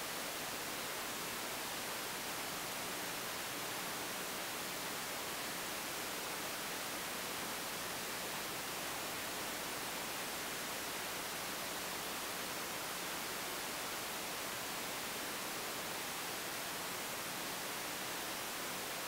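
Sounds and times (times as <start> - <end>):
recording noise hiss: 0.0 - 19.0.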